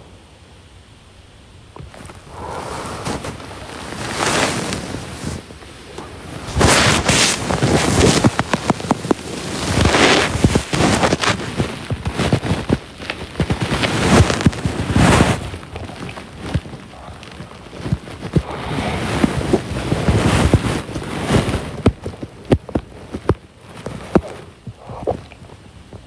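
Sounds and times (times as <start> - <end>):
crackling clicks: 1.8 - 26.0.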